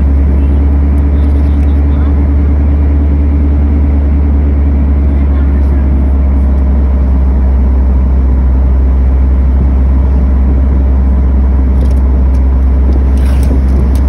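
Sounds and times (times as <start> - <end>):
vehicle interior road rumble: 0.0 - 14.0.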